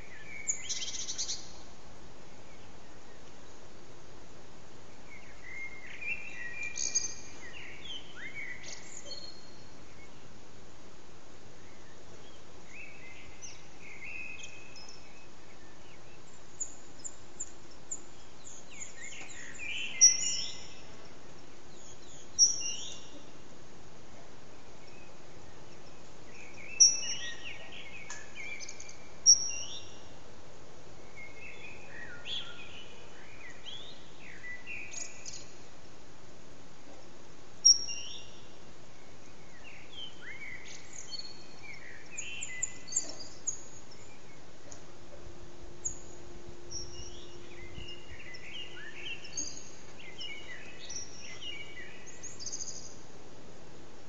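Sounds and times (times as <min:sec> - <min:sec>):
blackbirds singing: 0:00.0 - 0:01.8, 0:04.8 - 0:10.5, 0:11.6 - 0:30.3, 0:30.9 - 0:35.7, 0:36.9 - 0:53.3
background hiss: 0:00.0 - 0:54.0.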